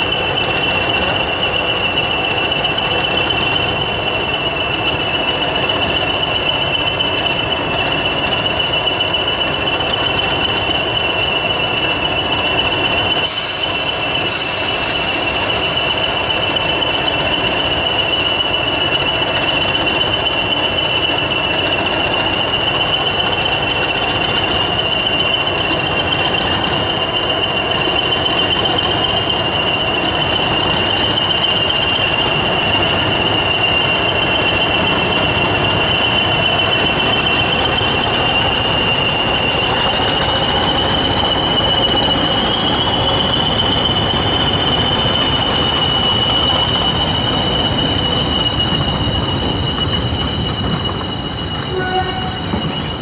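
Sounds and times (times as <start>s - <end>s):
diesel locomotive engines running: 0.0s - 53.0s
high-pitched wheel squeal: 0.0s - 53.0s.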